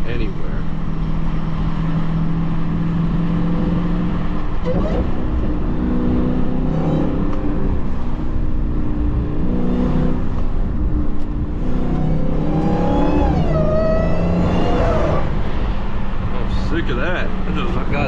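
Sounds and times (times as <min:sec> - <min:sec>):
car engine running: 0:00.0 - 0:18.0
supercharger whine: 0:00.9 - 0:16.9.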